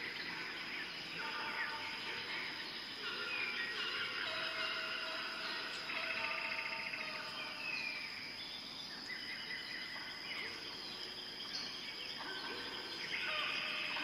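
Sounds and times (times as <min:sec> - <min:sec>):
birds chirping and whistling: 0:00.0 - 0:14.0
high insect drone: 0:00.0 - 0:14.0.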